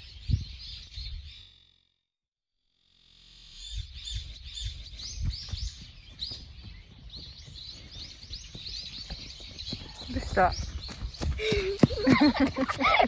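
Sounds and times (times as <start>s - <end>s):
small birds chirping: 0.0s - 1.8s, 3.5s - 13.0s.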